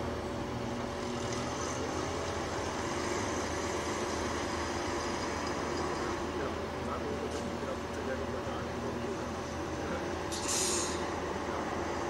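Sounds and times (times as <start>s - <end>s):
diesel railcar engine running: 0.0s - 12.0s.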